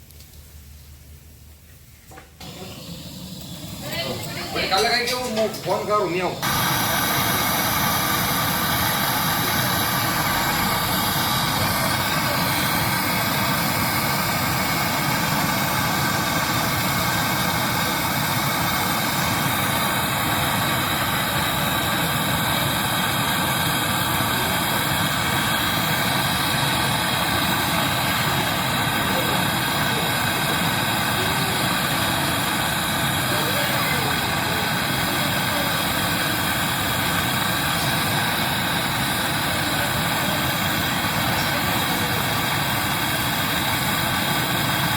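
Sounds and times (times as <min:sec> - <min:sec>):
machine humming: 0:02.4 - 0:44.9.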